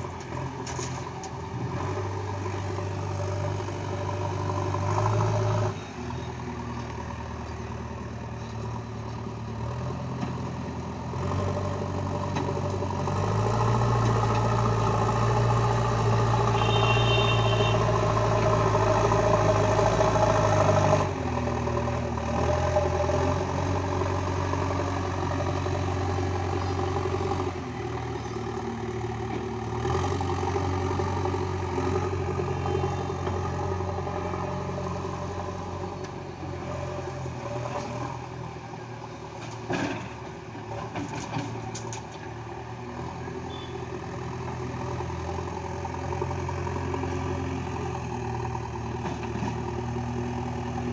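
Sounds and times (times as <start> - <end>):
backhoe diesel engine working: 0.0 - 50.9.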